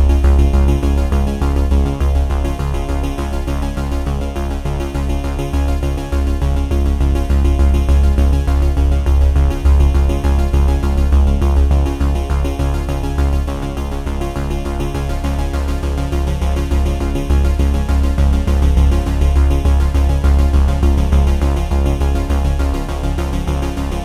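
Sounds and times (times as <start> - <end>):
electronic music with strong bass: 0.0 - 24.0.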